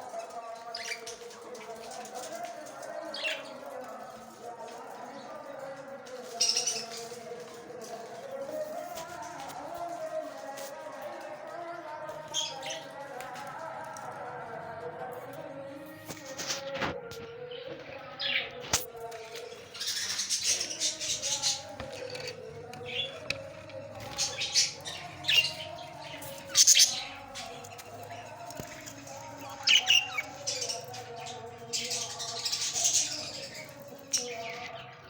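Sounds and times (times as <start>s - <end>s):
parrots chirping and chattering: 0.0s - 10.7s, 11.5s - 13.0s, 17.5s - 34.9s.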